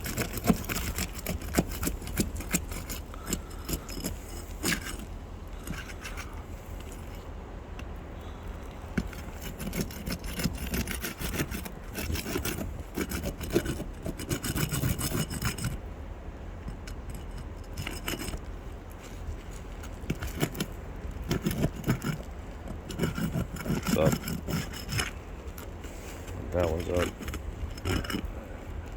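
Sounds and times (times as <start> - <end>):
shingles scraped and pried up: 0.0 - 7.4, 8.6 - 15.8, 16.6 - 28.9
steady low rumble: 0.0 - 14.2, 14.8 - 28.9.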